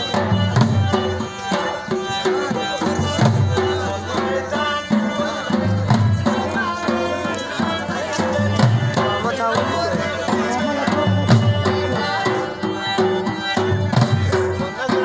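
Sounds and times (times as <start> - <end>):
dhol drums beating: 0.0 - 15.0.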